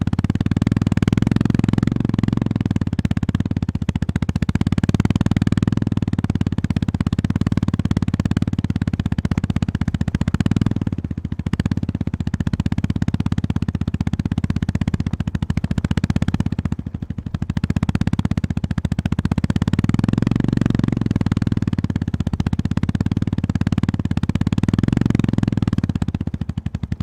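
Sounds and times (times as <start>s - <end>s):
motorcycle engine at low revs: 0.0s - 27.0s.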